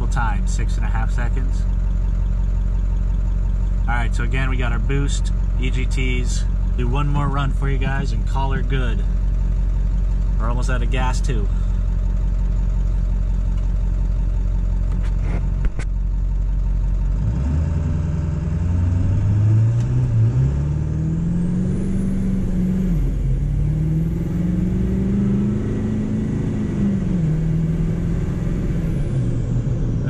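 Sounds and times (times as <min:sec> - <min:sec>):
diesel truck engine accelerating: 0:00.0 - 0:30.0.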